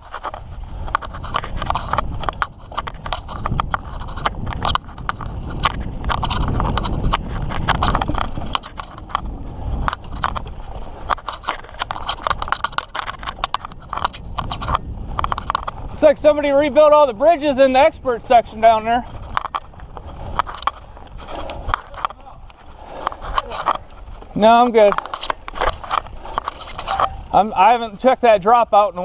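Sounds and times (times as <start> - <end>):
bike clattering over rocks: 0.0 - 16.0, 18.9 - 29.0
bike tyres rumbling on dirt: 0.0 - 29.0.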